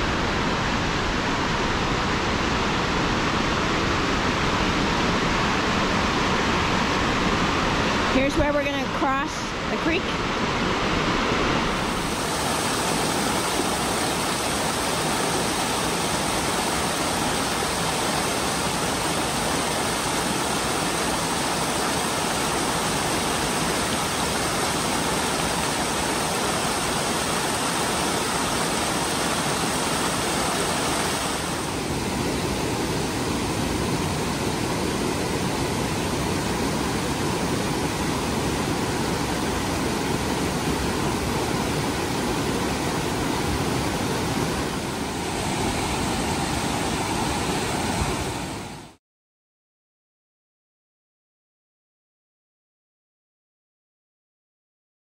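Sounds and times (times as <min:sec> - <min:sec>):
creek rushing over rocks: 0:00.1 - 0:49.0.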